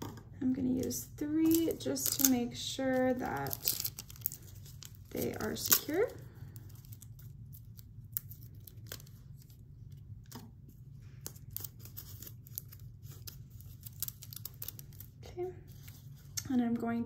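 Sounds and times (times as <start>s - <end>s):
faint steady low hum: 0.0s - 17.0s
glue dots peeling and crinkling: 0.8s - 16.4s.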